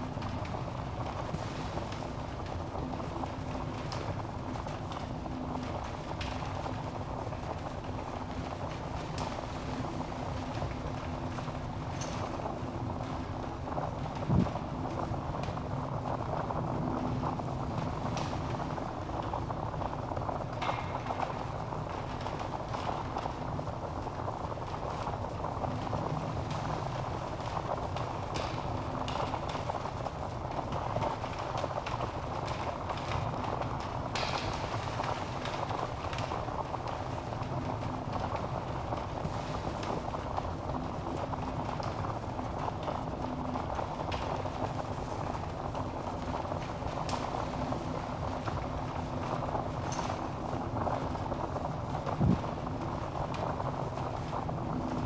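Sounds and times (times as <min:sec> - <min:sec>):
logs burning with crackles: 0:00.0 - 0:55.0.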